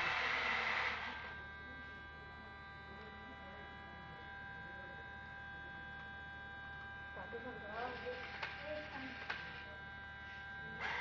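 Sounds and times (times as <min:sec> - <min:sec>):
electrical whine: 0:00.0 - 0:11.0.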